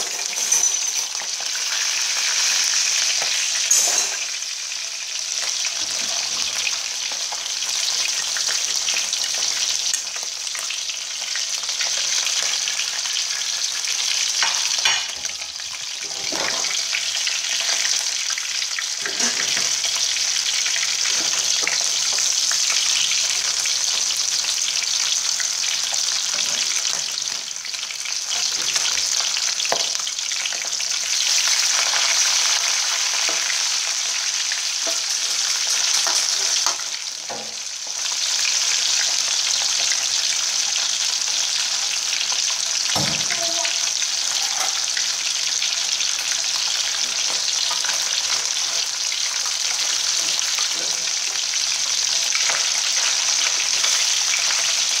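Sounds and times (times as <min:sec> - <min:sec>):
fish sizzling in oil: 0:00.0 - 0:55.0.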